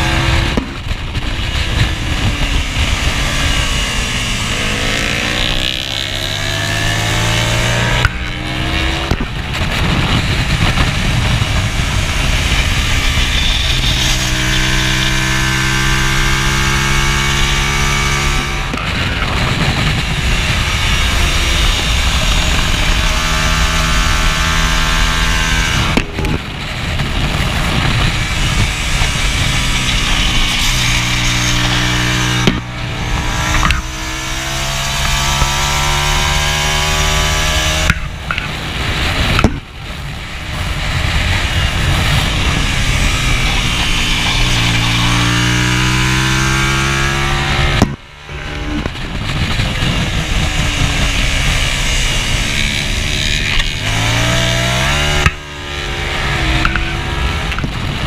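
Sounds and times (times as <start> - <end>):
motorcycle engine revving: 0.0 - 58.0
wind rushing: 0.0 - 58.0.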